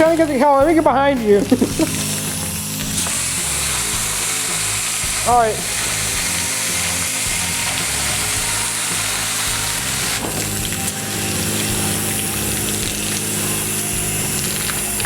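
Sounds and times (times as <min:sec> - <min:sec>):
high-pressure water spray hissing: 0:00.0 - 0:15.0.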